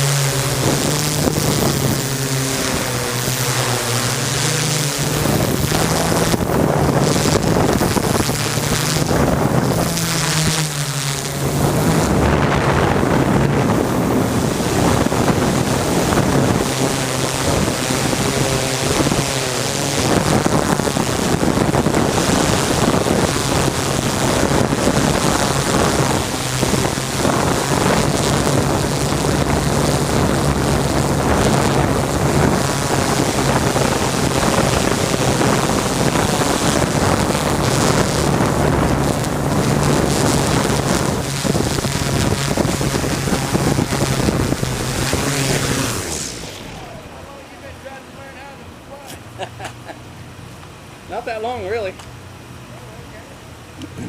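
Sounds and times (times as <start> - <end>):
wind noise on microphone: 0.0 - 48.0, 53.7 - 54.0
drone propellers humming: 0.0 - 54.0.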